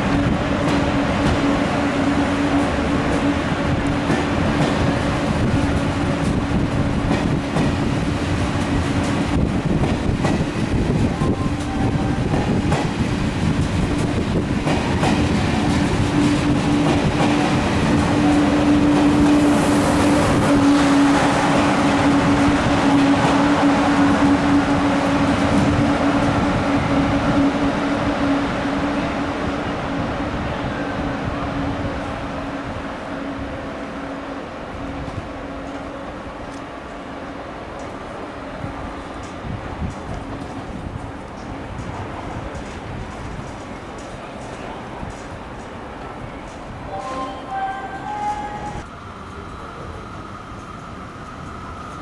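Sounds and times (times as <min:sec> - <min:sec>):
train rumbling past on rails: 0:00.0 - 0:52.0.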